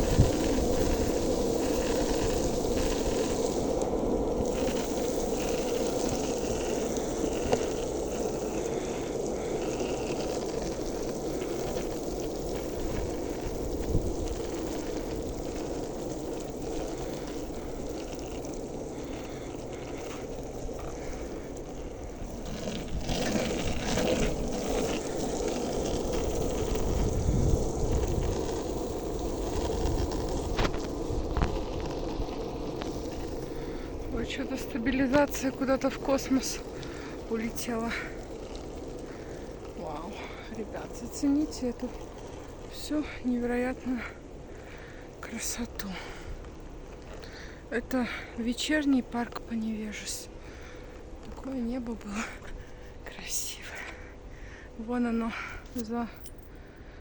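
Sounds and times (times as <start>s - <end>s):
rushing outdoor noise: 0.0s - 57.0s.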